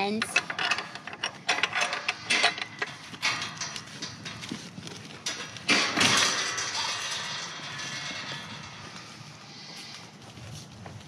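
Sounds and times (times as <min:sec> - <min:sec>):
metal gate rattling and clanking: 0:00.0 - 0:10.0.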